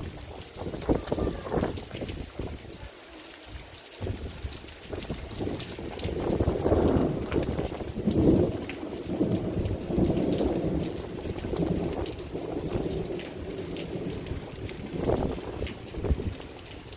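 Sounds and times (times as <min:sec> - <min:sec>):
rain falling: 0:00.0 - 0:16.9.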